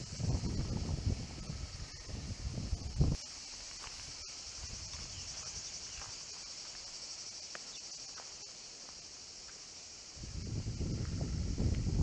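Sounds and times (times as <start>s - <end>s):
cicadas shrilling: 0.0s - 12.0s.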